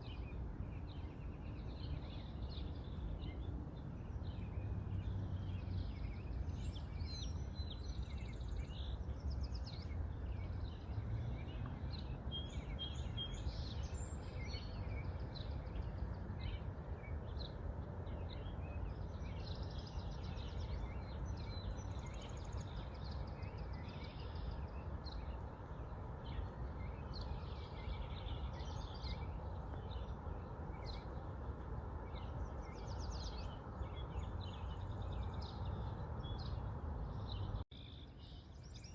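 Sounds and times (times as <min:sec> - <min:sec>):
small birds chirping and trilling: 0:00.0 - 0:38.9
steady low background noise: 0:00.0 - 0:38.9.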